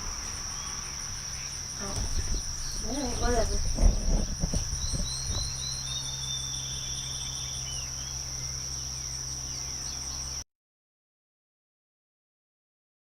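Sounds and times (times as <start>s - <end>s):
bird singing: 0.0s - 10.4s
crickets chirping: 0.0s - 10.4s.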